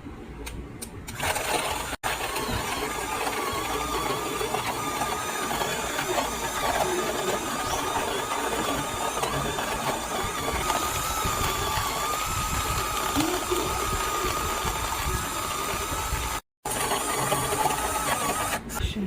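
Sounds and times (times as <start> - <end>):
coffee grinder motor whining: 1.1 - 18.8.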